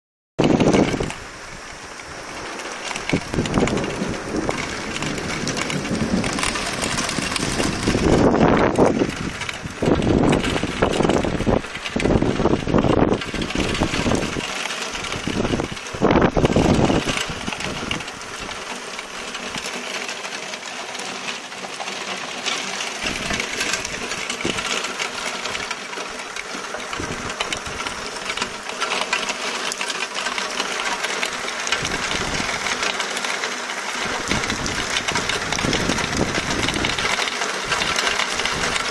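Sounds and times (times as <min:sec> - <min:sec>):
heavy rain pouring: 0:00.4 - 0:38.9
water streaming off roof: 0:00.4 - 0:38.9.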